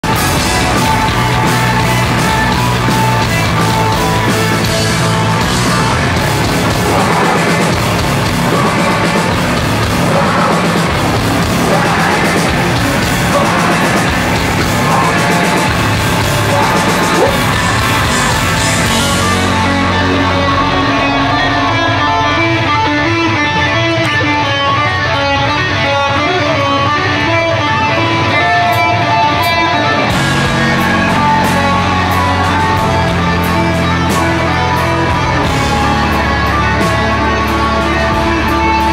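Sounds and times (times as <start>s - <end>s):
heavy rock band playing: 0.0s - 38.9s
repeated guitar figure: 0.0s - 38.9s.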